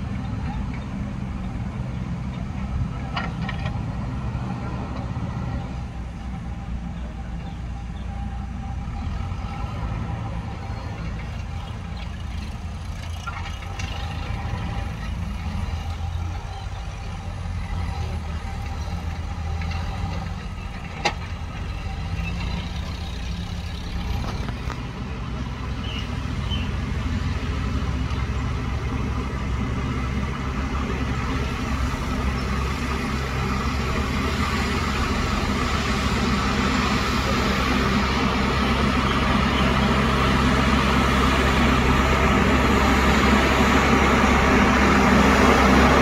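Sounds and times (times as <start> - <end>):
diesel engines running: 0.0 - 46.0.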